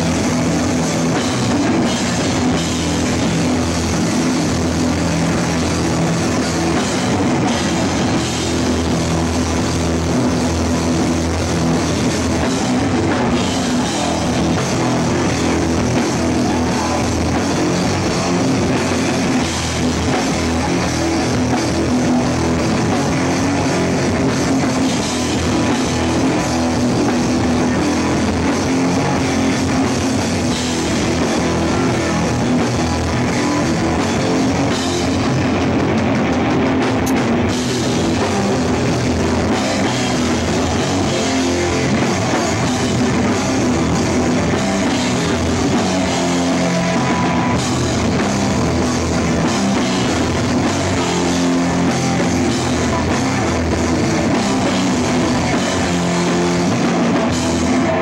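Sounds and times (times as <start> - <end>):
punk band playing live: 0.0 - 58.0.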